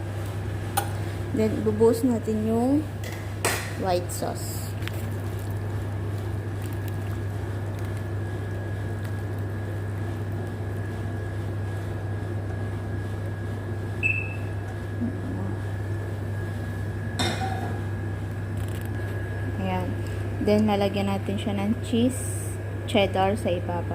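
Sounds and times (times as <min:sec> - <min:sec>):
mechanical hum: 0:00.0 - 0:23.9.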